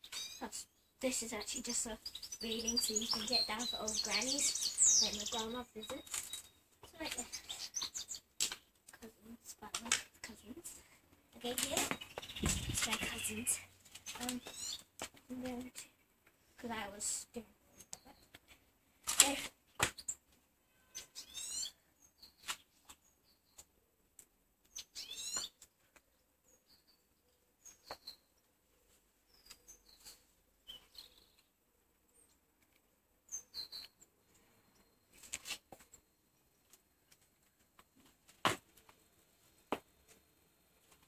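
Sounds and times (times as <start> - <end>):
small birds chirping: 0.0 - 38.2.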